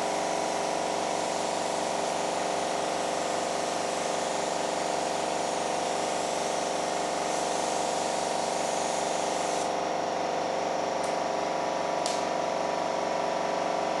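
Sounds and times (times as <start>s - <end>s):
paint spray gun hissing: 0.0s - 14.0s.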